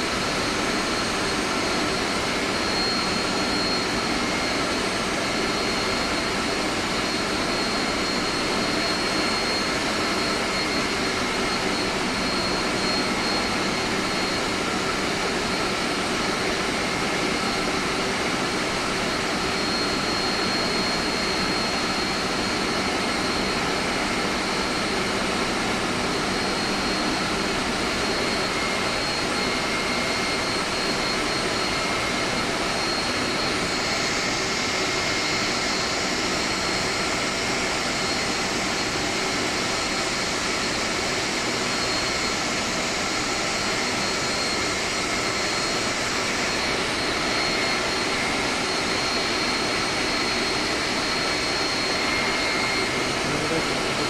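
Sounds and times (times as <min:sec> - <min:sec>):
air conditioning machinery running: 0:00.0 - 0:54.0
thin high whine: 0:00.0 - 0:54.0.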